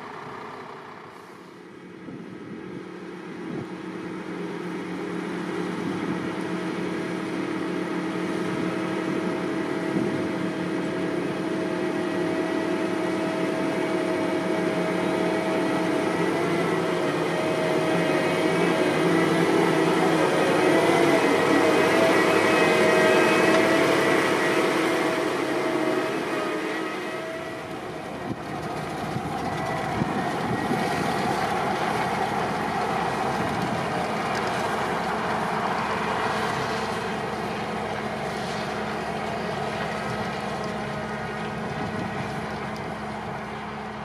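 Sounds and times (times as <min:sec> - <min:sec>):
steady machine whine: 0:00.0 - 0:44.0.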